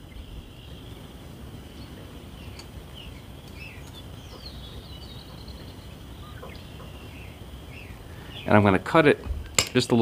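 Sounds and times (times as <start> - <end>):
bird chirps: 0.0 - 8.7.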